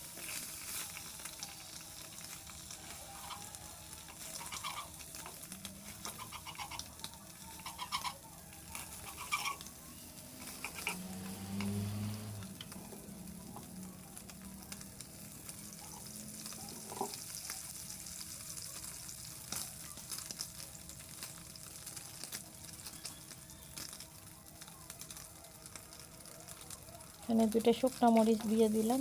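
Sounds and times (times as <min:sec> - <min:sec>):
hot oil crackling and popping: 0:00.0 - 0:29.0
roe sizzling in oil: 0:00.0 - 0:29.0.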